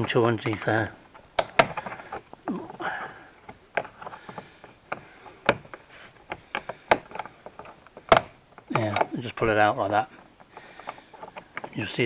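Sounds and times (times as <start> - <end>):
plastic trim tool prying: 0.0 - 9.2, 10.2 - 12.0
sharp clicks and knocks: 0.0 - 12.0.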